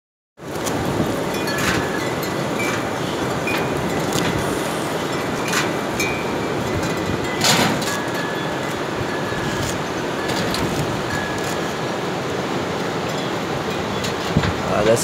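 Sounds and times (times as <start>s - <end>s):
steady rushing noise: 0.4s - 15.0s.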